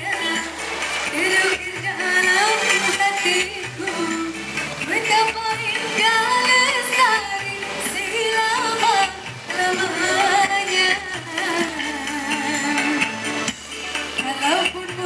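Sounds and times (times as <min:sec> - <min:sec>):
person singing: 0:00.0 - 0:13.3
live instrumental accompaniment: 0:00.0 - 0:15.0.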